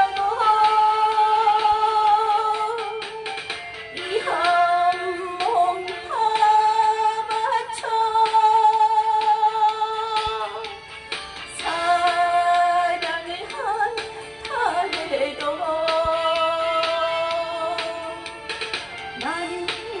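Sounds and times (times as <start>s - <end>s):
woman singing: 0.0s - 10.8s, 11.4s - 18.5s, 19.1s - 20.0s.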